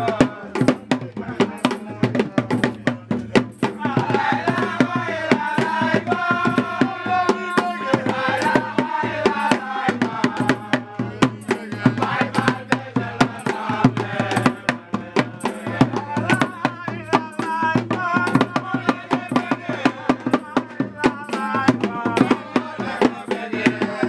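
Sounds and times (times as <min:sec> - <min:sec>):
hand drums playing fast rhythm: 0:00.0 - 0:24.0.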